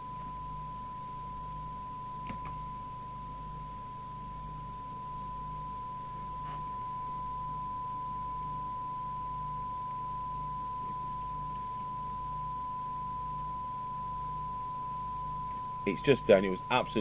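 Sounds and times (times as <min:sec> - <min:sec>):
faint low hum: 0:00.0 - 0:17.0
steady test tone from radio speaker: 0:00.0 - 0:17.0.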